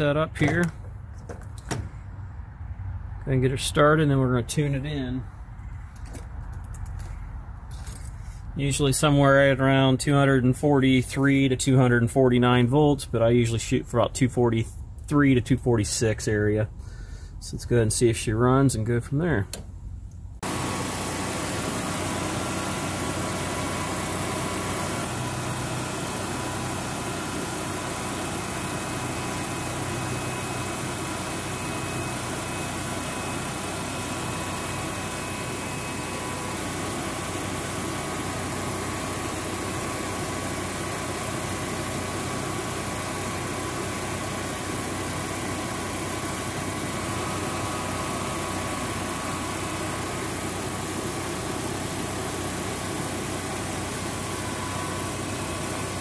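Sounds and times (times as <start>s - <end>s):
generator engine running: 0.0s - 18.0s, 18.8s - 56.0s.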